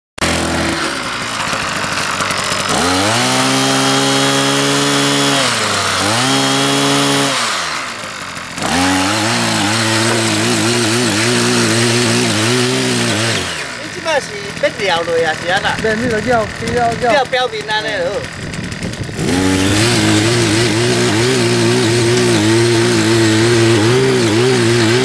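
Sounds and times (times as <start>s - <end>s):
power tiller engine revving: 0.2s - 25.0s.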